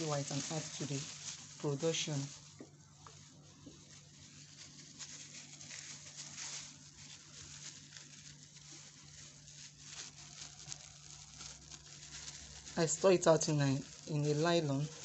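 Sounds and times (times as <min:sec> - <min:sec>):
faint rustling and handling: 0:00.0 - 0:15.0.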